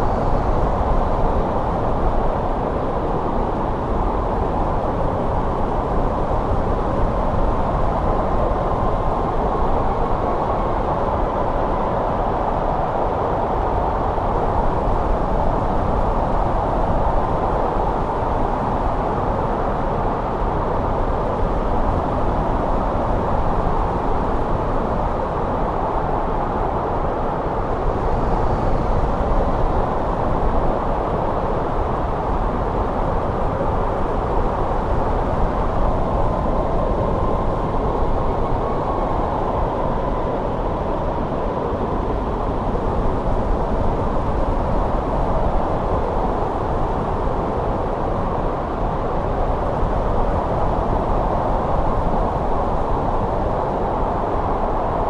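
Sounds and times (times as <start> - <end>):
faint wind whistle: 0.0 - 55.0
snowstorm wind rushing: 0.0 - 55.0.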